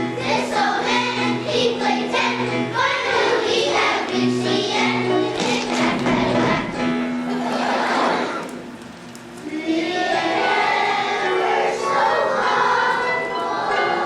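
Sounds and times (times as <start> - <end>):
children's choir singing: 0.0 - 8.6, 9.4 - 14.0.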